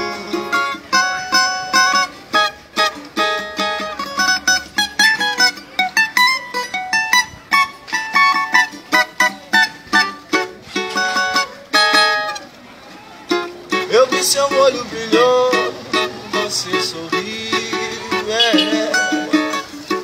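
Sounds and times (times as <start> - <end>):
small guitar plucking and strumming: 0.0 - 20.0.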